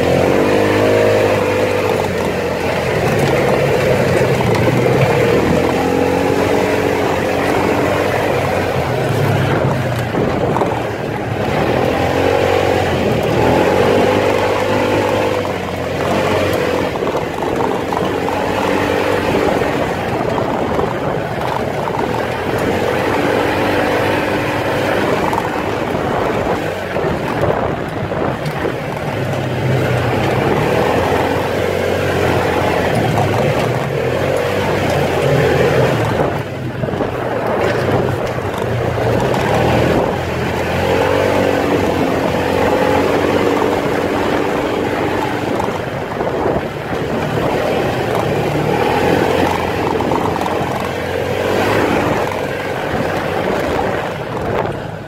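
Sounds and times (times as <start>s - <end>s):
off-road vehicle engine: 0.0s - 55.0s
tyres on rough ground: 0.0s - 55.0s.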